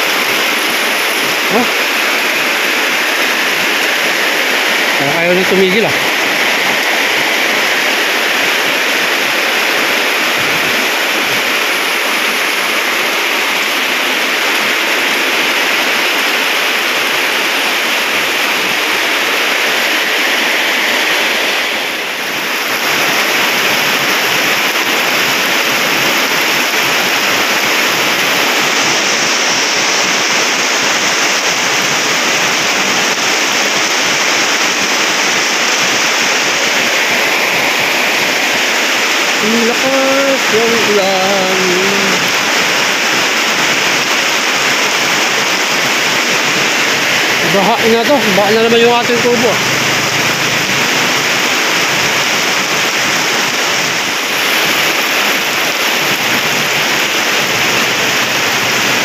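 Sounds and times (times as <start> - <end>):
heavy rain on concrete: 0.0 - 59.0.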